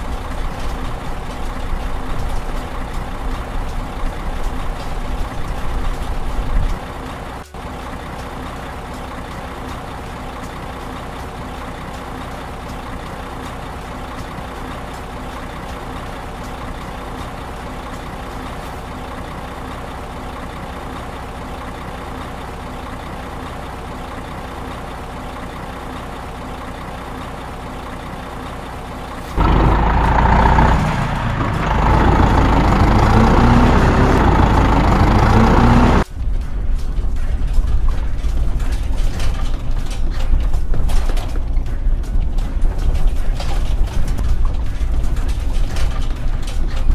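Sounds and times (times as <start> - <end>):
diesel truck engine idling: 0.0 - 46.9
loud busy mechanical sound: 0.0 - 46.9.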